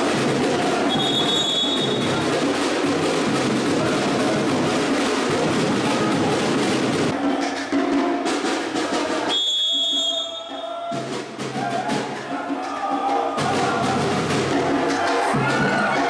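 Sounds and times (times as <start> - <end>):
background music with drum beat: 0.0 - 16.0.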